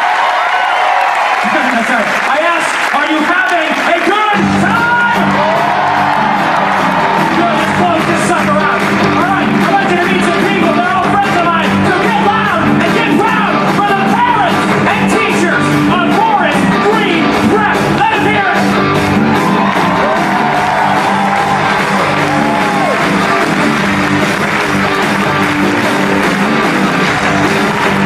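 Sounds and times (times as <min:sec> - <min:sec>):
rock band playing: 0:01.5 - 0:28.0.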